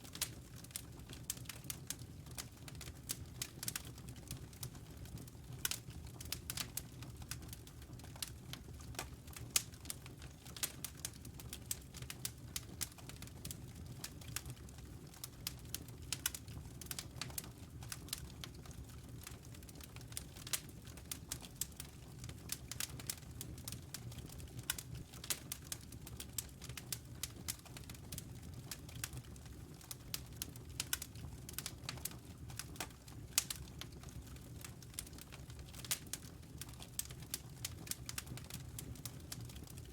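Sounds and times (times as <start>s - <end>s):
wood fire crackling: 0.0s - 39.9s
burning logs popping: 0.1s - 39.9s.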